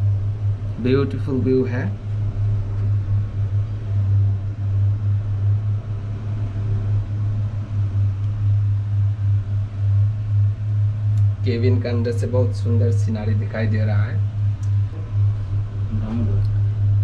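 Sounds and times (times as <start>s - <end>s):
cable car cabin drone: 0.0s - 17.0s.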